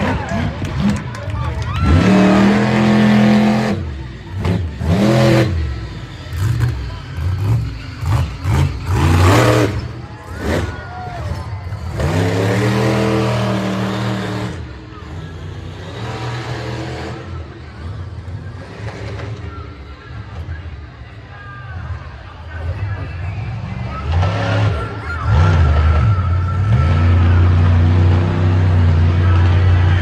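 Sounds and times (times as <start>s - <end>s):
truck engine revving: 0.0s - 21.1s, 22.0s - 30.0s.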